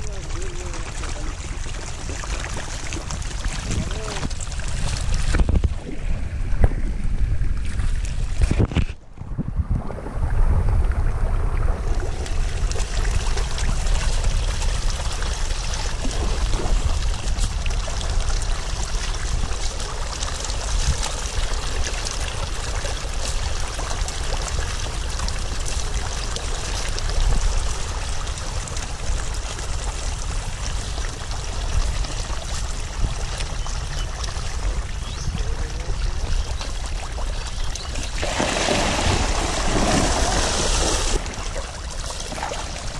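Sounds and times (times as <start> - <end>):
fish splashing water: 0.0 - 6.2, 11.3 - 42.9.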